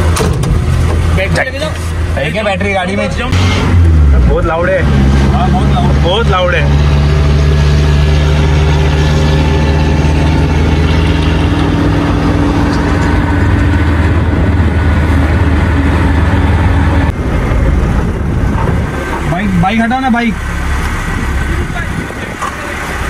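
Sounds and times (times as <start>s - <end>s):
loud engine idling: 0.0s - 23.0s.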